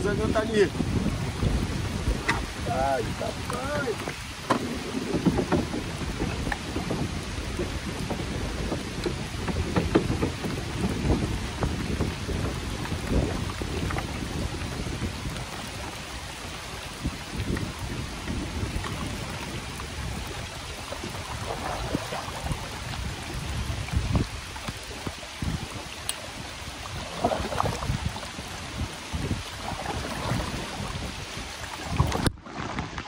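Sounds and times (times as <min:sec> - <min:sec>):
loud water splashes: 0:00.0 - 0:33.0
water sloshing around kayak: 0:00.0 - 0:33.0
wind rumbling on microphone: 0:00.0 - 0:33.0.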